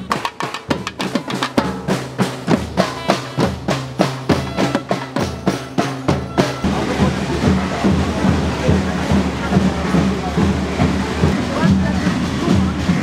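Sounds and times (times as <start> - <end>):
large frame drum beats: 0.0 - 13.0
snare drums beating: 0.0 - 13.0.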